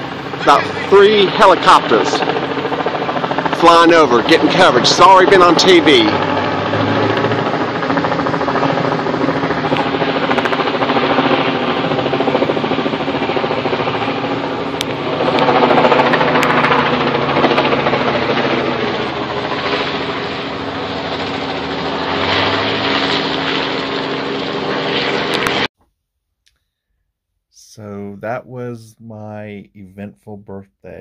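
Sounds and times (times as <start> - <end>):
helicopter rotor chop: 0.0 - 25.7.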